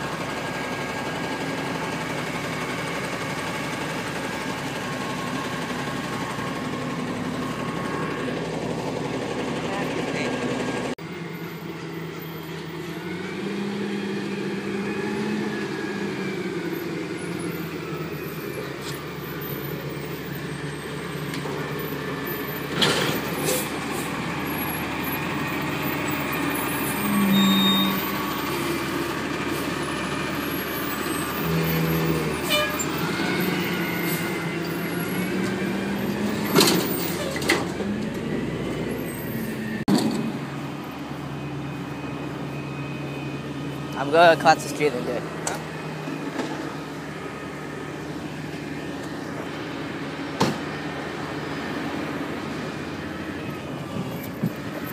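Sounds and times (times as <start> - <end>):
garbage truck diesel engine revving: 0.0 - 54.9.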